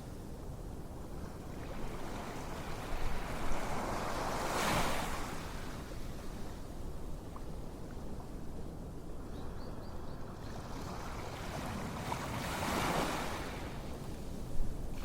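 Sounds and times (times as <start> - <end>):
ocean waves surf hiss: 0.0 - 7.4, 10.3 - 15.0.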